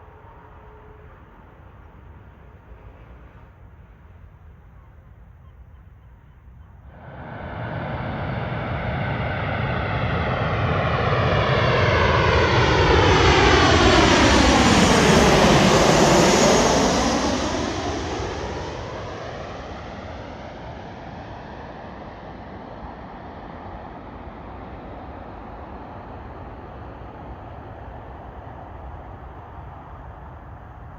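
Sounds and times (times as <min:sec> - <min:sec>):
jet airliner passing overhead: 0:00.0 - 0:30.9.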